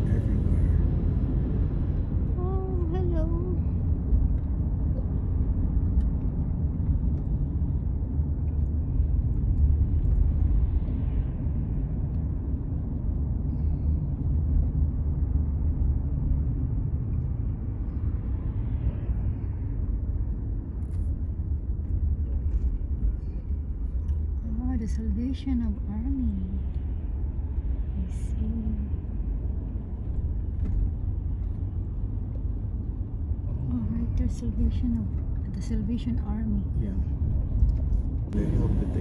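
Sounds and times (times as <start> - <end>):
car engine and tyre noise: 0.0 - 39.0.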